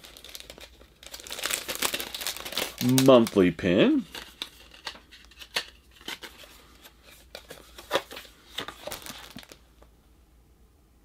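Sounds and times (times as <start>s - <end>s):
cardboard card clicks and rustling: 0.0s - 9.6s.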